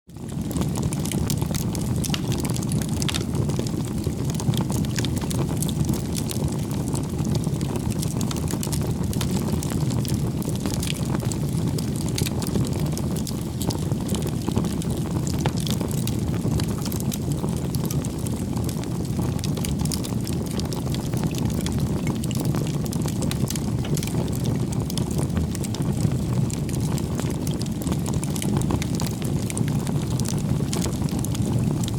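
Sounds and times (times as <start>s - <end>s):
campfire flames roaring: 0.1s - 31.9s
fire crackling and popping: 0.1s - 31.9s.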